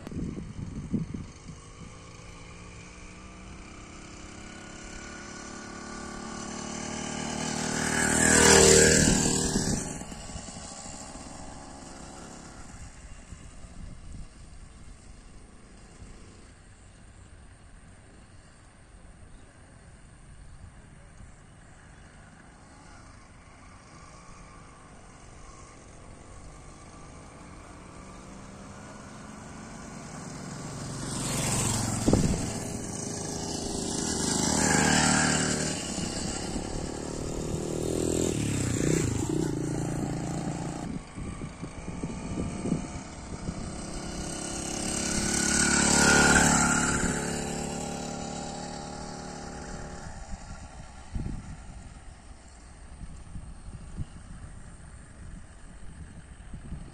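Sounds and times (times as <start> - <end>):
motorized bicycle engine passing: 0.0 - 56.9.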